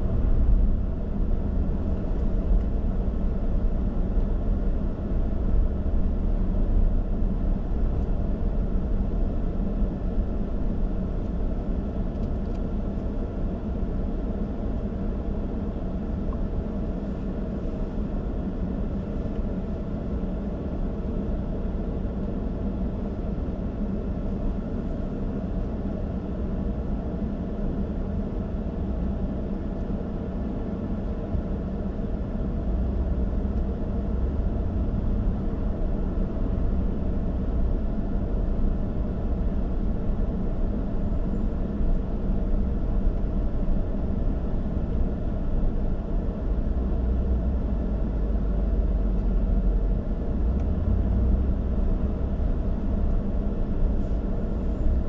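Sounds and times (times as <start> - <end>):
car engine and tyre noise: 0.0 - 55.0.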